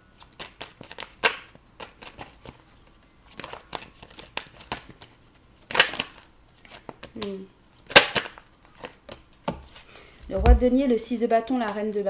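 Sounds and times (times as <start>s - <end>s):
cards being shuffled: 0.2s - 9.8s.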